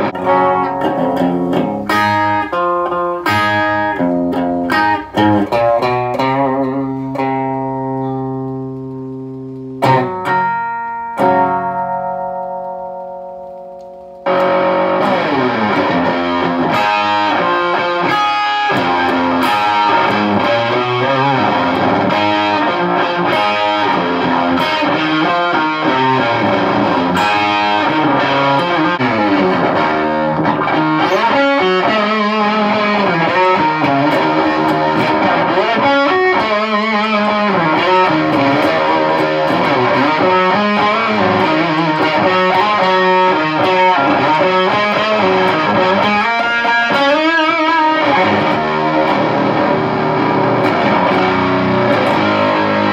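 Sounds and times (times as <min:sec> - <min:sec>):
distorted guitar riffing: 0:00.0 - 0:52.9
electric guitar chords ringing: 0:00.0 - 0:52.9.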